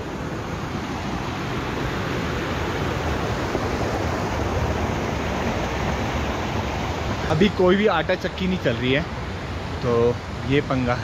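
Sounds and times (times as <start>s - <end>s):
water rushing down stream: 0.0s - 11.0s.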